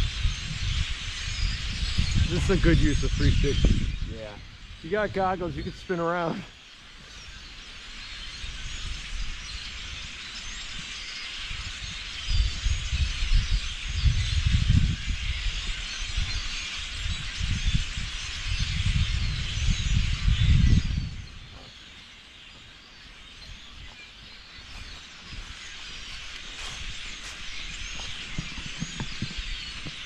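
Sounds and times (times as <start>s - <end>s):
flock of songbirds chirping: 0.0s - 30.0s.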